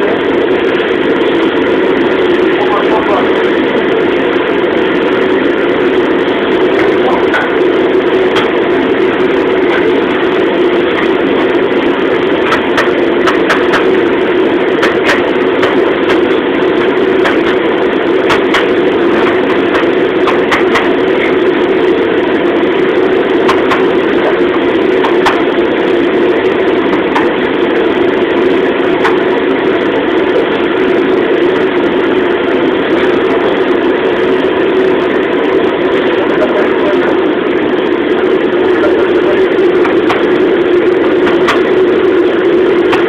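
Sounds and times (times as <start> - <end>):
gas burner roaring: 0.0 - 43.0.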